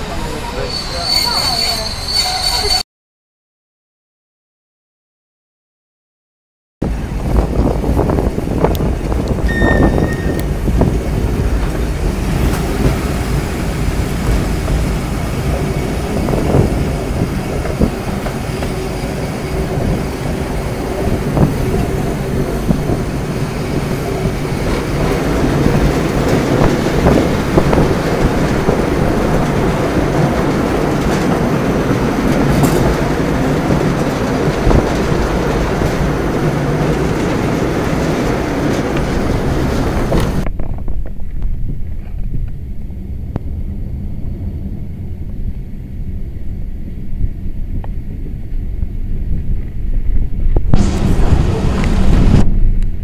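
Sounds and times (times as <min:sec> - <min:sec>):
train wheels rumbling on rails: 0:00.0 - 0:02.8, 0:06.8 - 0:53.0.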